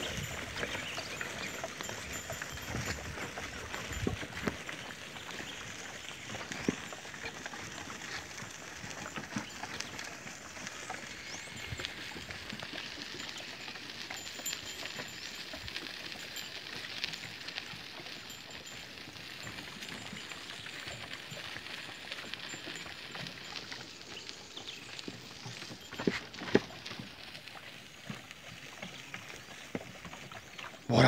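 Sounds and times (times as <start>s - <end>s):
cart rolling: 0.0s - 27.2s
hoof clicks on dirt: 0.0s - 31.0s.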